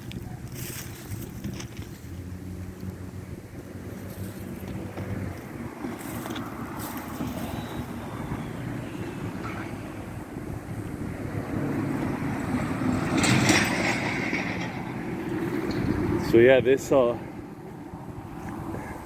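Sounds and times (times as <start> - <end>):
road traffic passing: 0.0 - 19.0
wind noise on microphone: 0.0 - 19.0.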